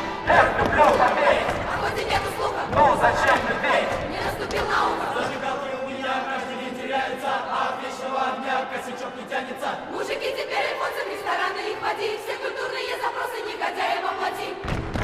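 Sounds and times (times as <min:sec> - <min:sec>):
choir singing in harmony: 0:00.0 - 0:14.9.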